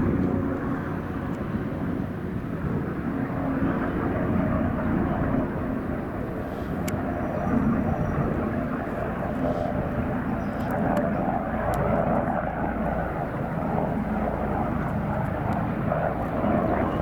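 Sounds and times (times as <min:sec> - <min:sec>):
helicopter rotor drone: 0:00.0 - 0:17.0.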